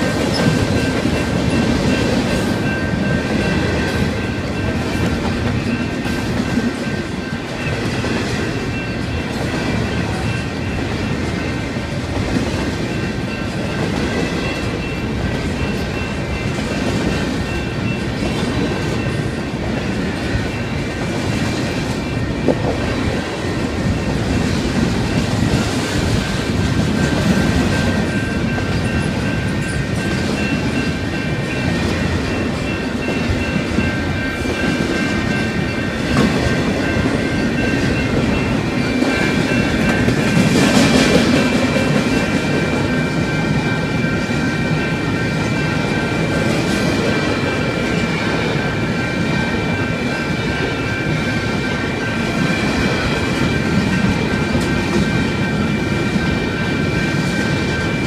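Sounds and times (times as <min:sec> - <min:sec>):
freight train wheels on rail: 0:00.0 - 0:58.0
steady high-pitched tones: 0:00.0 - 0:58.0.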